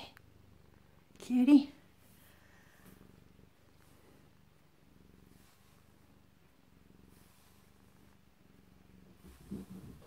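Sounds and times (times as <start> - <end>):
cat purring faintly: 0.0 - 10.0
brush stroking through fur: 1.8 - 10.0.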